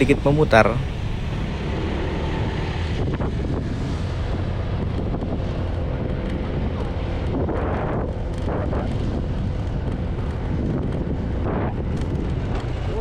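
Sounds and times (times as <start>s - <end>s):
scooter engine hum: 0.0s - 13.0s
wind rushing over microphone: 0.0s - 13.0s.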